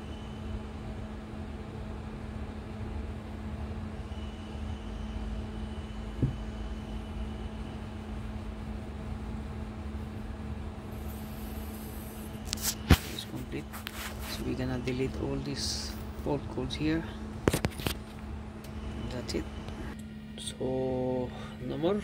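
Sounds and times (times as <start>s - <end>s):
low machine rumble: 0.0s - 22.0s.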